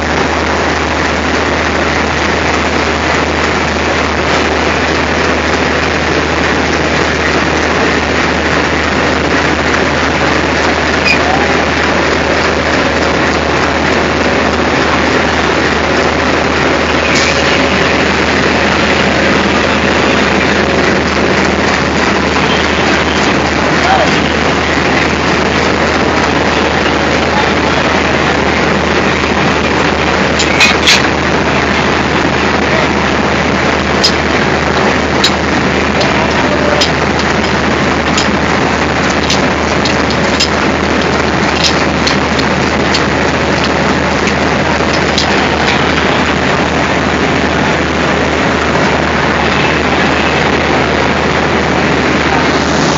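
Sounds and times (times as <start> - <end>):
diesel locomotive engine idling: 0.0 - 52.9.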